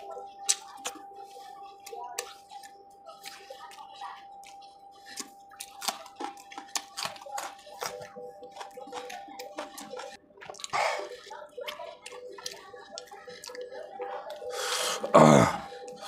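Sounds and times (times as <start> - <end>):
man chewing wetly: 0.0 - 16.0.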